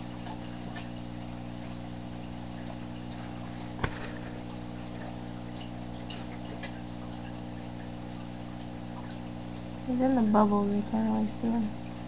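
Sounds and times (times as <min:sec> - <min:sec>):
aquarium pump humming: 0:00.0 - 0:12.0.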